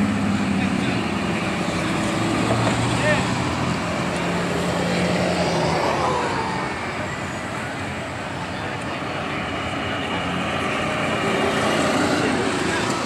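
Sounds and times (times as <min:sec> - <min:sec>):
passing vehicle engine: 0:00.0 - 0:13.0
road traffic passing: 0:00.0 - 0:13.0.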